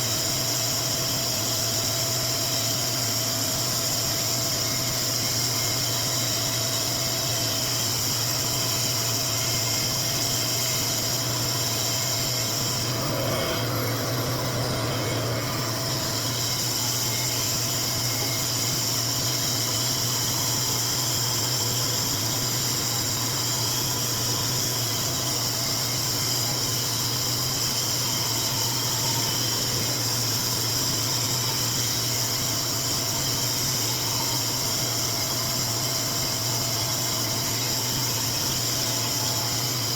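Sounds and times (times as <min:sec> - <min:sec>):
hair dryer running: 0:02.6 - 0:39.9.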